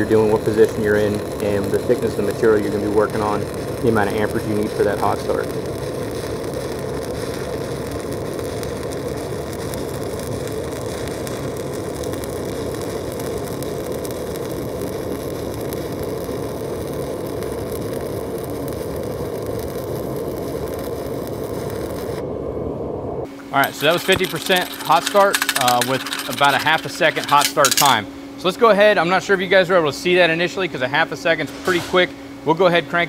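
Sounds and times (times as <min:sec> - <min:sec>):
welding arc burning: 0:00.0 - 0:22.2, 0:23.4 - 0:28.1.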